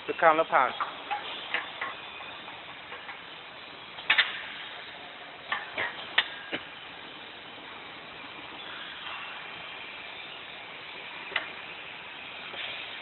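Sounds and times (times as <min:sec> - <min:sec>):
machine hiss: 0:00.1 - 0:13.0.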